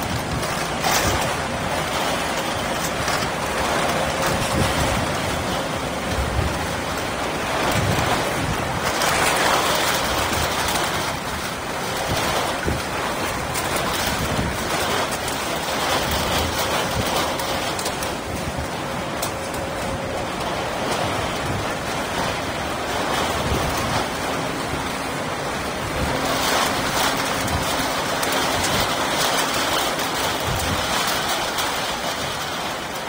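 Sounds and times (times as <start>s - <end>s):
can baler machine drone: 0.0s - 33.0s.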